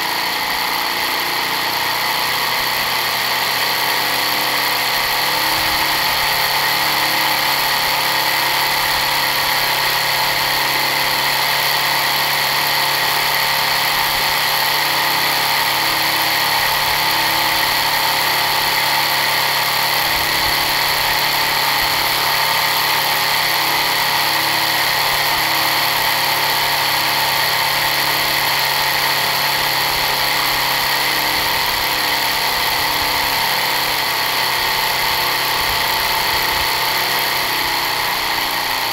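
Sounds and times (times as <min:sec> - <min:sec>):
simulated diesel engine running: 0:00.0 - 0:38.9.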